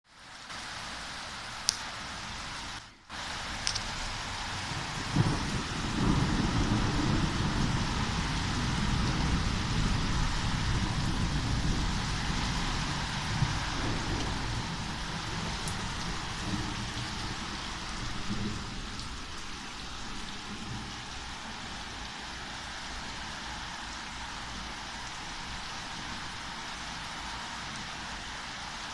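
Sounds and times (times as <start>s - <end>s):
heavy rain falling: 0.1s - 28.9s.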